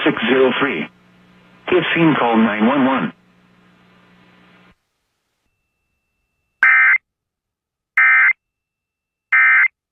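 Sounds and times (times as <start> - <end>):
faint hum: 0.0 - 9.4.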